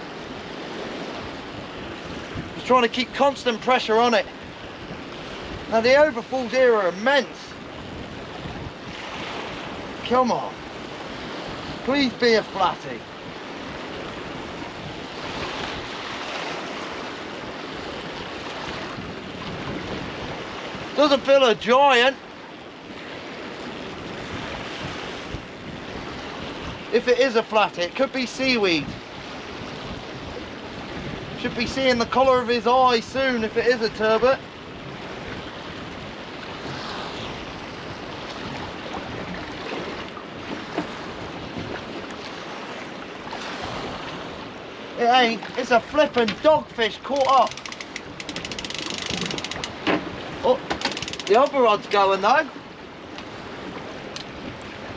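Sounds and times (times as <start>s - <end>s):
wind on microphone: 0.0s - 6.6s, 7.2s - 27.0s, 27.9s - 54.9s
rough water rushing: 0.0s - 54.9s.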